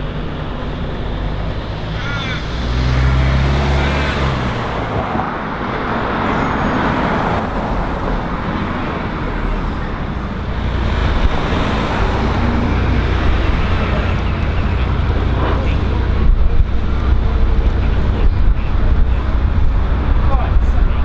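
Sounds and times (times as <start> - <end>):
cars passing: 0.0 - 18.2.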